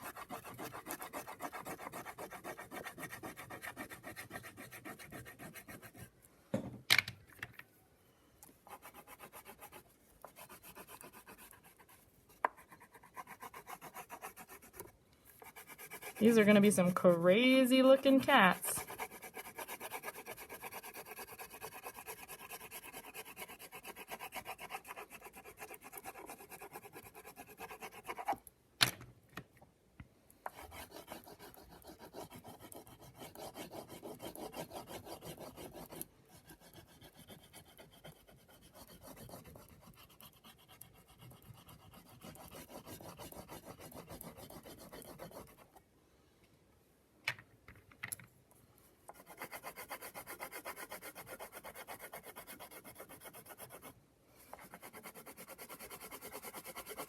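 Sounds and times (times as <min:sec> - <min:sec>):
crayon scribbling on paper: 0:00.0 - 0:06.1, 0:08.7 - 0:28.4, 0:30.5 - 0:45.7, 0:49.1 - 0:53.9, 0:54.5 - 0:57.0.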